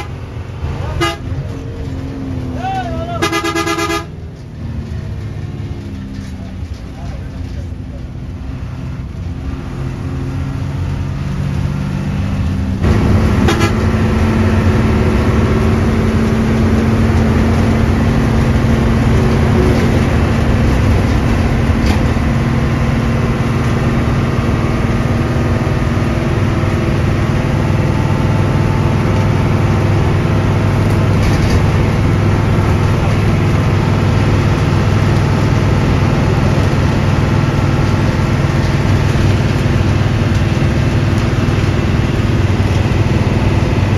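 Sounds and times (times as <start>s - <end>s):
bus diesel engine running: 0.0s - 43.9s
road noise: 0.0s - 43.9s.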